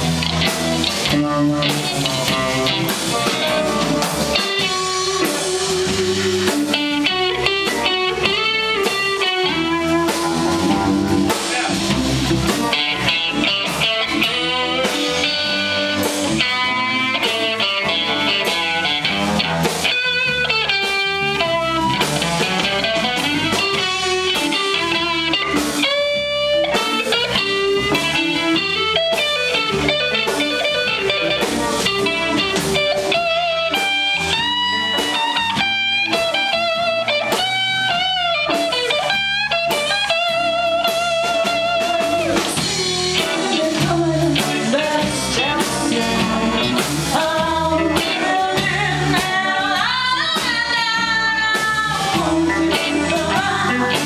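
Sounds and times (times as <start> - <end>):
bass guitar: 0.0 - 54.0
drums: 0.0 - 54.0
electric guitar solo: 0.0 - 54.0.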